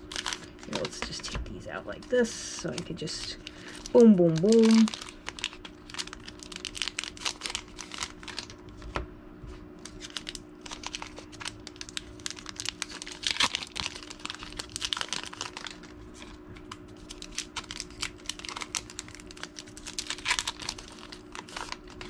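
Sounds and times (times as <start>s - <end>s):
wrapper crinkling: 0.0s - 8.9s, 9.8s - 22.0s.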